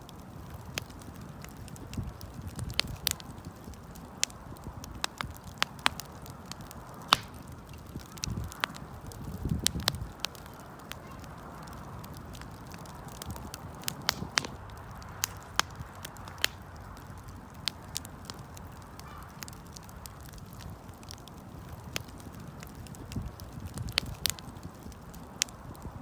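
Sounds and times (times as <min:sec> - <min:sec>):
campfire crackling and popping: 0:00.0 - 0:26.0
low rush of flames: 0:00.0 - 0:26.0.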